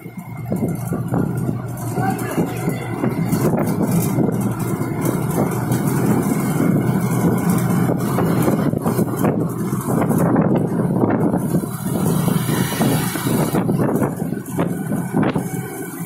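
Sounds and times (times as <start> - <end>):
scooter engine running: 0.0 - 16.0
wind buffeting microphone: 0.0 - 16.0.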